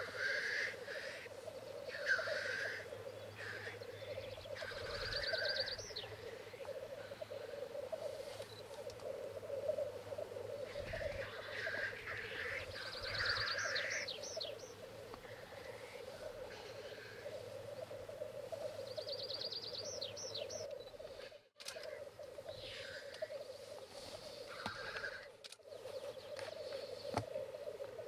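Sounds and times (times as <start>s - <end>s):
grouse bubbling cooing song: 0.0s - 28.0s
grouse hissing calls: 0.0s - 28.0s.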